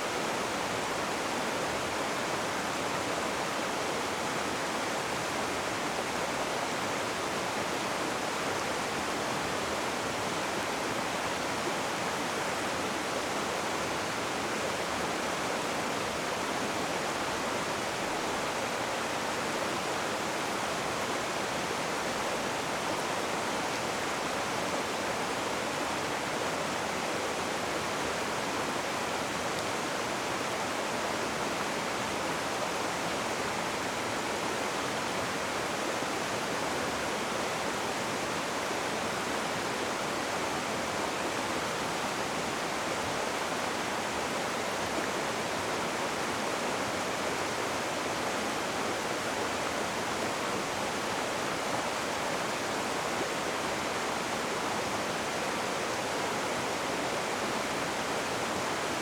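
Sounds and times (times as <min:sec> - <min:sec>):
rushing water roar: 0:00.0 - 0:59.0.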